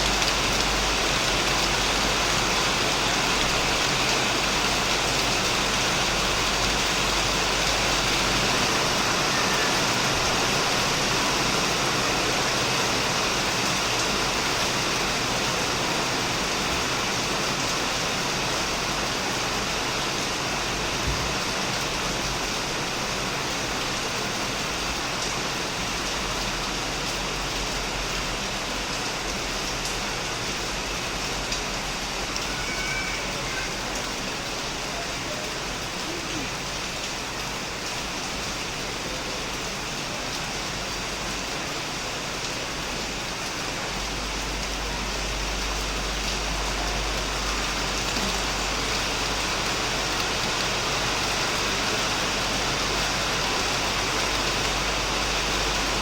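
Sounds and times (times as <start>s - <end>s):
heavy rain on a shed roof: 0.0s - 56.0s.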